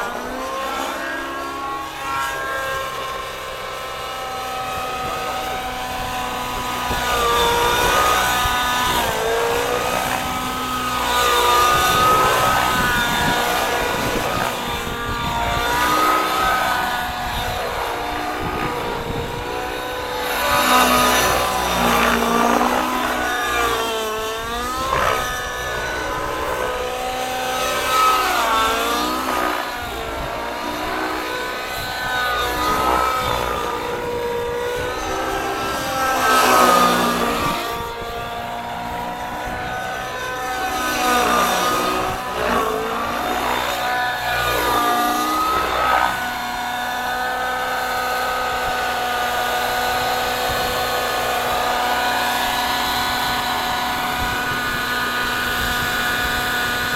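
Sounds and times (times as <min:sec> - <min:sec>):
model helicopter engine whine: 0:00.0 - 0:56.9.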